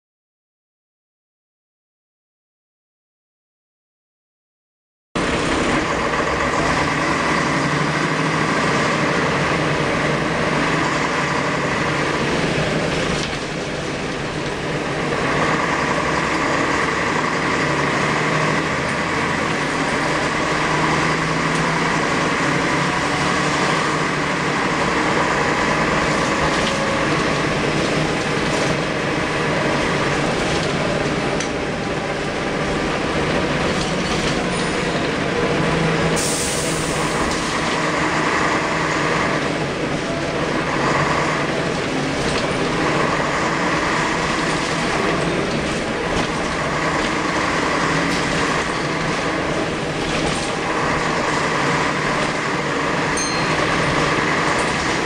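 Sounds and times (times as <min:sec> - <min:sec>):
bus engine running: 0:05.2 - 0:55.0.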